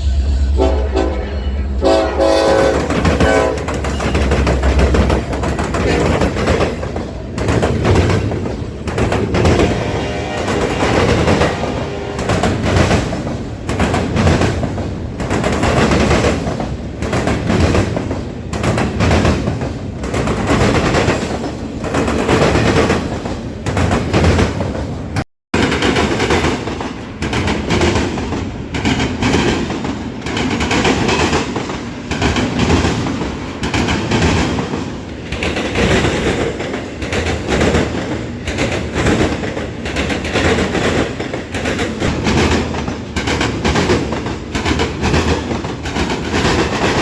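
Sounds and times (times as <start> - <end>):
train rumble: 0.0 - 47.0
train wheels clattering: 1.8 - 47.0.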